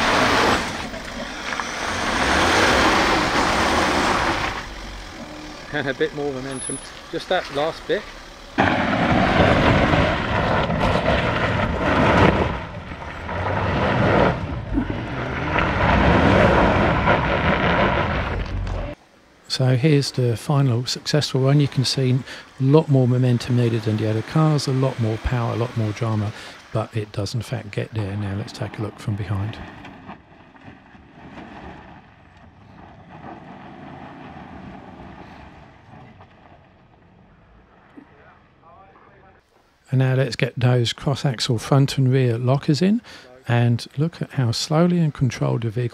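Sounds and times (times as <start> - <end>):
engine working hard under load: 0.0 - 19.0, 20.2 - 38.7.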